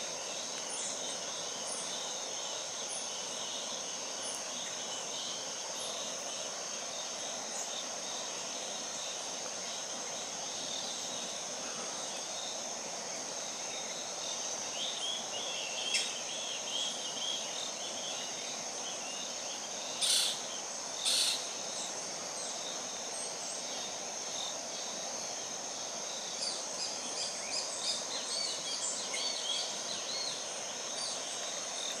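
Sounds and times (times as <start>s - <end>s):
constant hiss: 0.0s - 32.0s
high-pitched insect drone: 0.0s - 32.0s.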